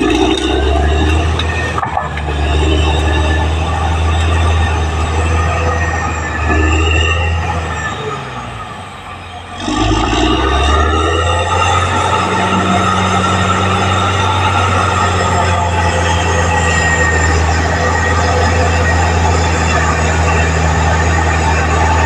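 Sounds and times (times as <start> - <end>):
bulldozer diesel engine under load: 0.0 - 22.0
running gear squealing: 0.0 - 22.0.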